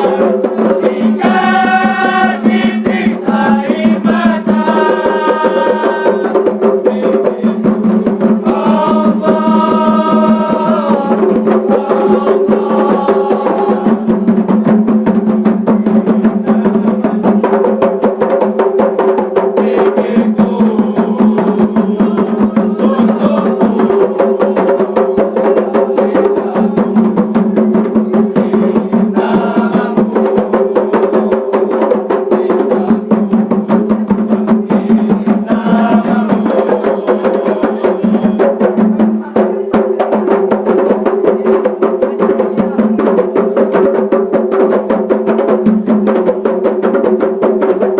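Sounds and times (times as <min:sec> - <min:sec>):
voices singing: 0:00.0 - 0:14.6, 0:15.9 - 0:18.4, 0:19.0 - 0:46.3
fast even percussion: 0:00.0 - 0:47.9.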